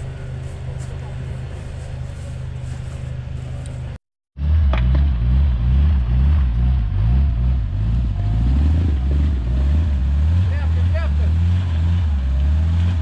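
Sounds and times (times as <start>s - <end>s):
engine running under load: 0.0s - 13.0s.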